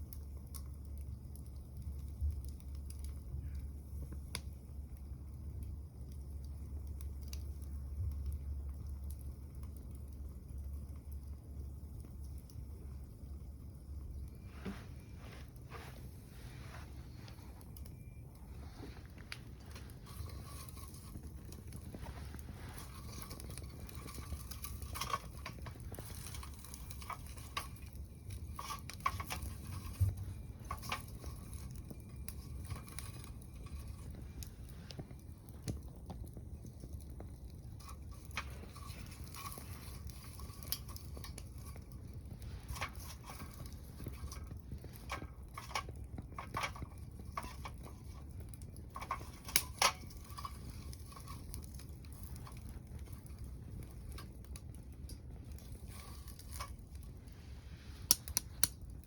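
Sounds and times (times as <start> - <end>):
low rumble of stove: 0.0 - 59.0
wood fire crackling: 0.0 - 59.0.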